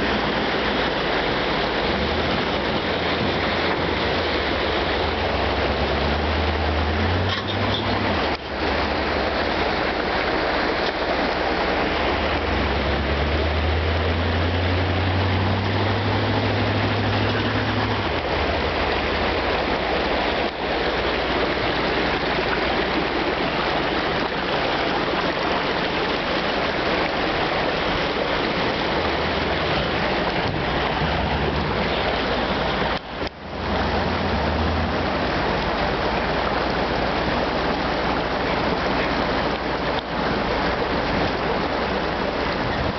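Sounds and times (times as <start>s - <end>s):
creek water rushing over rocks: 0.0s - 42.9s
truck engine running low: 0.0s - 42.9s.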